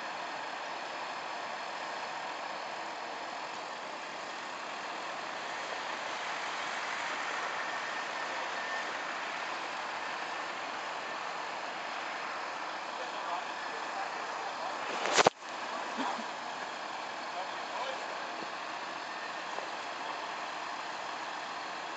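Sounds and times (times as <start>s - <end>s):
vehicle noise on snowy road: 0.0s - 21.9s.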